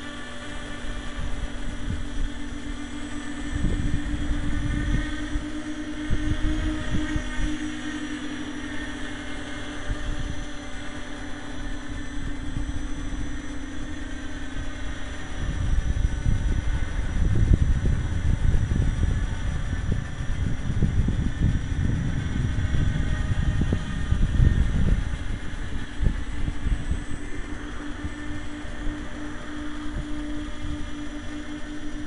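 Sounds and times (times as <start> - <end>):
drone motors whining: 0.0 - 32.0
low hum: 0.0 - 32.0
wind buffeting microphone: 0.6 - 32.0.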